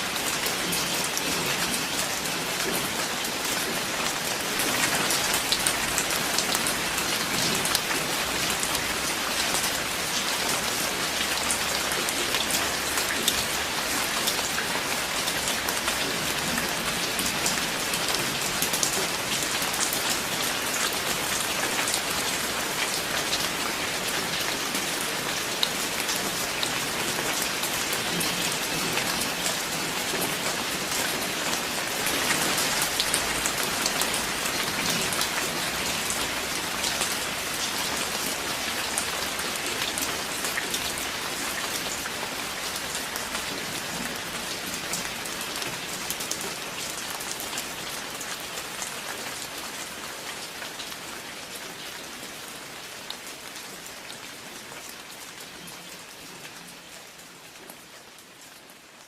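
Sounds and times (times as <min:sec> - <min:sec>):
dense rainfall hiss: 0:00.0 - 0:59.0.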